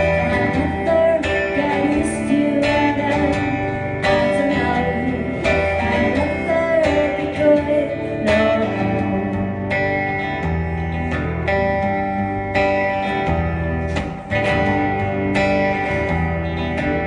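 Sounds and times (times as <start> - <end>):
guitars strumming country music: 0.0 - 17.0.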